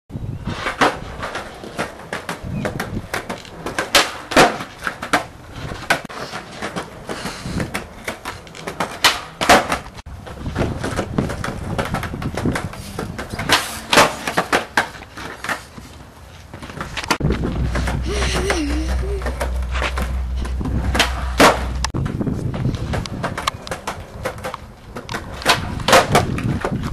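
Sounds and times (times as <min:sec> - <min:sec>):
skateboard wheels rolling on concrete: 0:00.1 - 0:26.9
skateboard tail pops: 0:00.5 - 0:15.6, 0:19.3 - 0:26.9
skateboard landing clacks: 0:00.6 - 0:15.9, 0:19.2 - 0:26.9.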